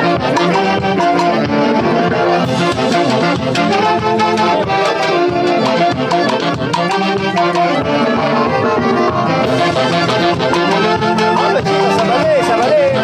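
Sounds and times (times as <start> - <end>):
saxophones and brass melody: 0.0 - 13.0
steady percussion beat: 0.0 - 13.0.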